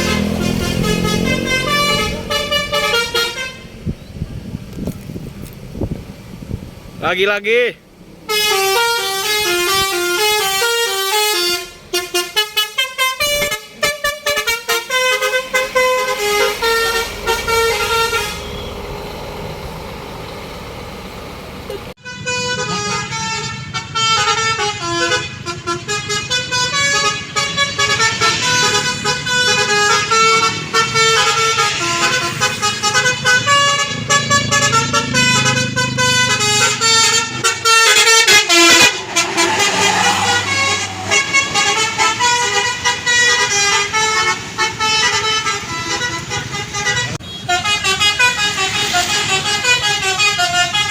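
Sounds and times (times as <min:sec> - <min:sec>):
bus horn melody: 0:00.0 - 0:03.9, 0:08.2 - 0:50.9
engine and road noise: 0:00.0 - 0:50.9.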